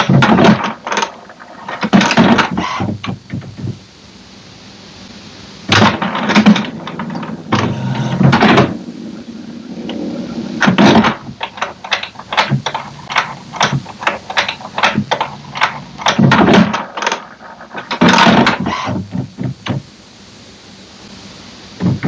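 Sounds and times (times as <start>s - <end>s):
printer mechanism whirring and clunking: 0.0s - 3.8s, 5.7s - 19.9s.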